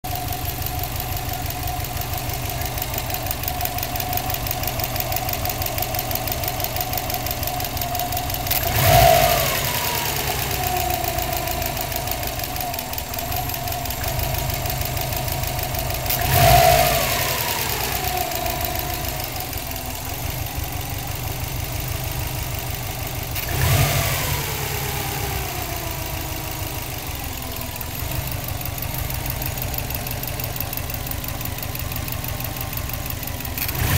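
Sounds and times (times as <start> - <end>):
car engine idling and revving: 0.0 - 33.9
steady engine ticking: 0.0 - 33.9.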